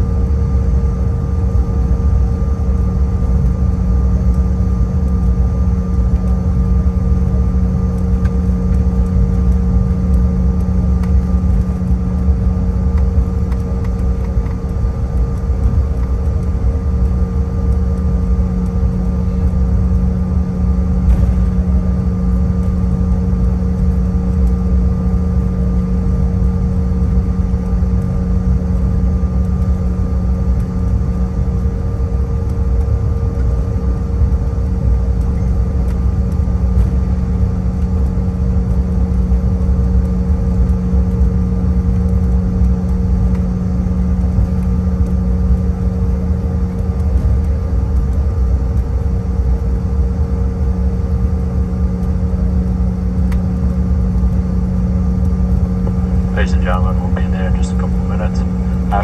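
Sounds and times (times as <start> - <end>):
jet engines idling hum: 0.0 - 59.0.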